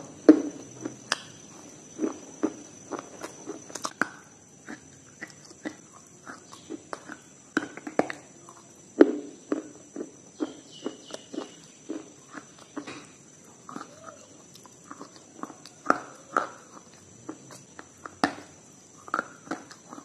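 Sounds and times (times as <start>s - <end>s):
crunchy chewing: 0.0s - 20.0s
mouth clicks: 2.0s - 20.0s.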